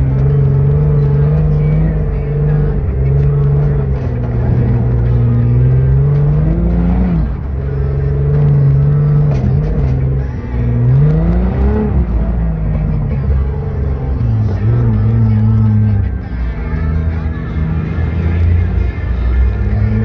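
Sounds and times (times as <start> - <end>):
dune buggy engine running hard: 0.0 - 20.0.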